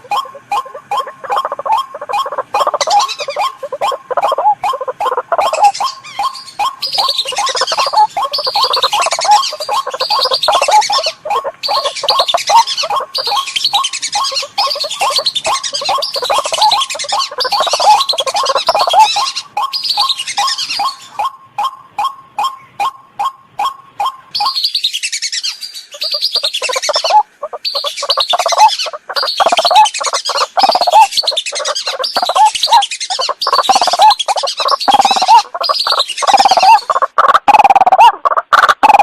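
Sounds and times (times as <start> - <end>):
waterhen calls: 0.0 - 39.0
whistling duck calls: 0.0 - 39.0.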